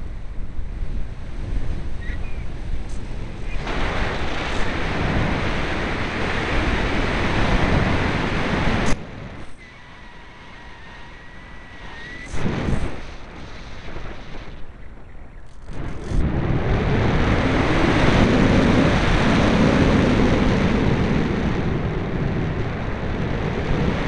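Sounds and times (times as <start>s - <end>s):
thin steady whine: 0.0s - 19.6s
airflow rushing over microphone: 0.0s - 24.0s.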